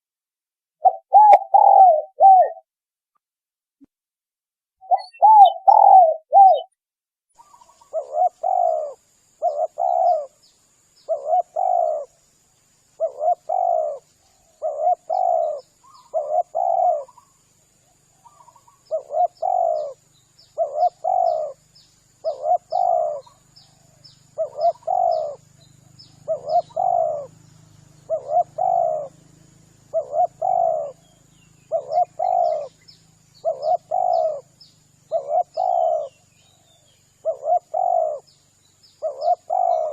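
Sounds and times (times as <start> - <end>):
dove cooing: 0.8 - 2.6, 4.8 - 6.7, 7.4 - 10.4, 11.0 - 12.2, 13.0 - 17.4, 18.0 - 21.6, 22.2 - 38.4, 39.0 - 39.9.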